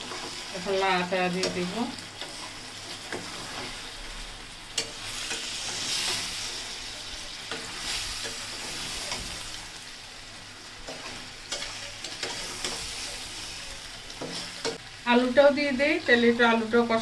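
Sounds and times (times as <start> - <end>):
curry sizzling in hot oil: 0.0 - 17.0.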